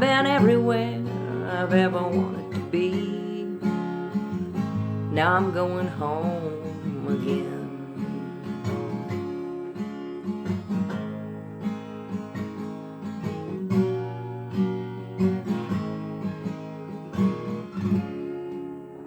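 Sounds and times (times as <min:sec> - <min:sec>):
acoustic guitar strummed and picked: 0:00.0 - 0:19.0.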